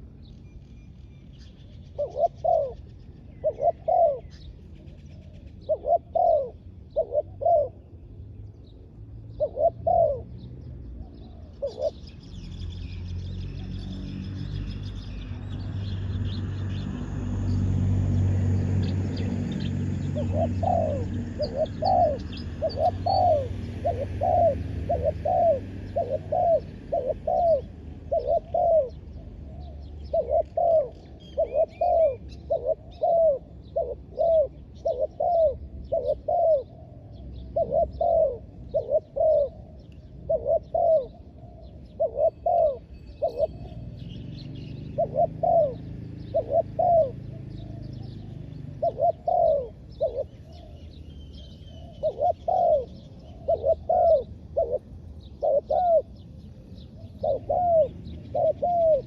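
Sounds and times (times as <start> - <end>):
small birds chirping: 0.0 - 59.0
dove cooing: 1.9 - 12.4, 15.3 - 59.0.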